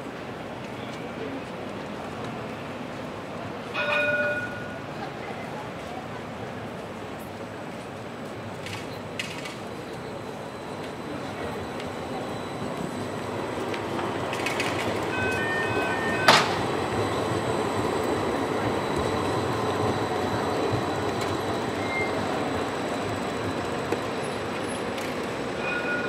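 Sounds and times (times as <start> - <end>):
street traffic: 0.0 - 26.0
tram wheels rumbling on rails: 0.0 - 26.0.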